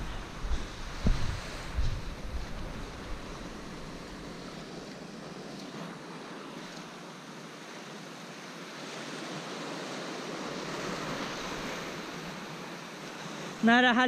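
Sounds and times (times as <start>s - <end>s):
waves breaking on rocky shore: 0.0s - 14.0s.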